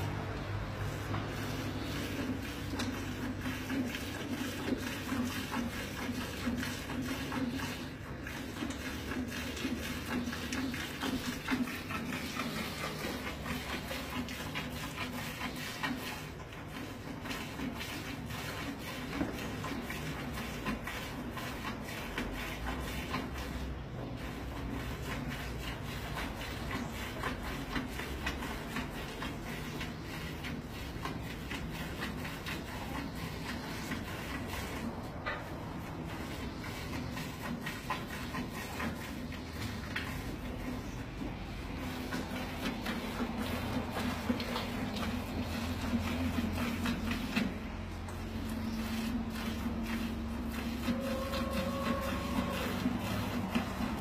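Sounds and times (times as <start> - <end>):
milk squirting into metal pail: 0.0 - 54.0.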